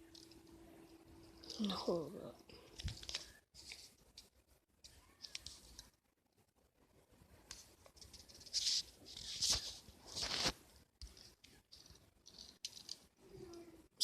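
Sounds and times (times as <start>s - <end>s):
rustling and scraping handling noise: 0.0s - 6.0s, 7.0s - 13.6s.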